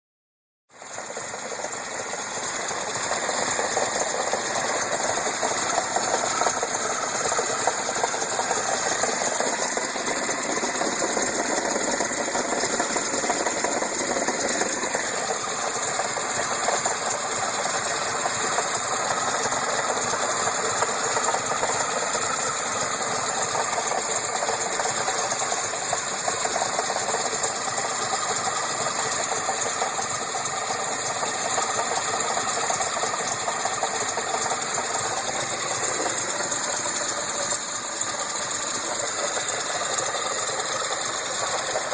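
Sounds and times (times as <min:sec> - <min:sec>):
car engine clattering: 0:01.0 - 0:41.9.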